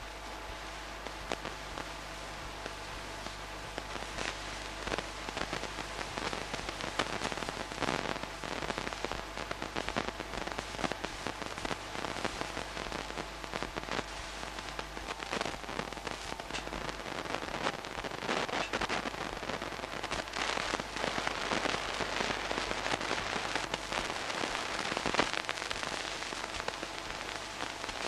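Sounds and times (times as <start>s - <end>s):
film crackle: 0.0s - 28.0s
steady hiss: 0.0s - 28.0s.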